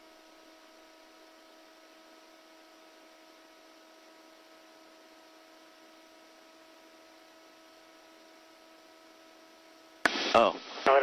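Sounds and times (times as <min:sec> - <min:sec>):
electrical hum: 0:00.0 - 0:11.0
faint steady hiss: 0:00.1 - 0:11.0.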